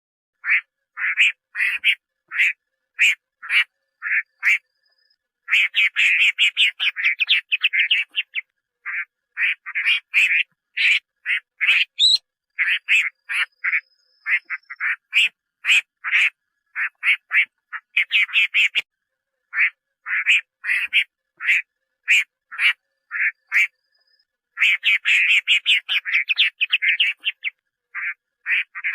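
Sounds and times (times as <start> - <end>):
laughingthrush calling: 0.4 - 18.9, 19.5 - 28.9.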